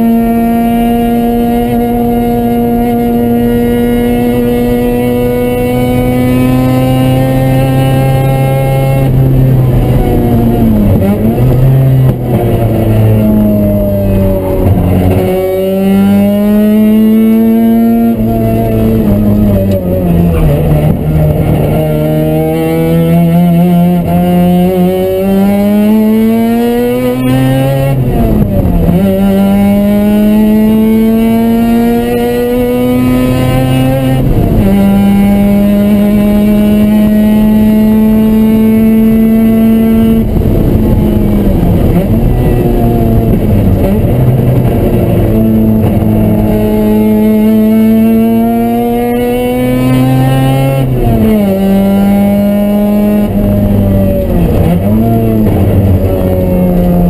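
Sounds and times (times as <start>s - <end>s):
rotary engine revving: 0.0s - 57.0s.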